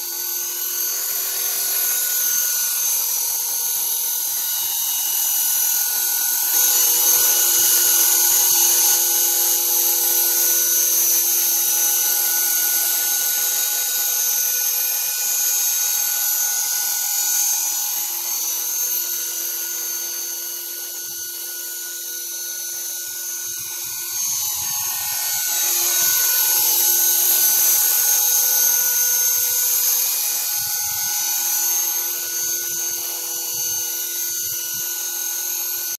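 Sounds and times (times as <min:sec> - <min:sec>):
quadcopter propellers whining: 0:00.0 - 0:35.9.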